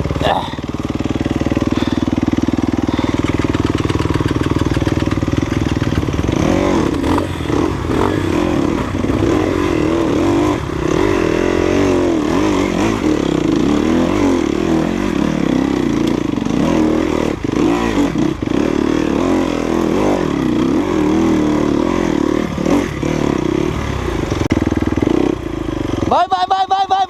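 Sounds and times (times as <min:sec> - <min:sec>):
dirt bike engine revving: 0:00.0 - 0:26.3.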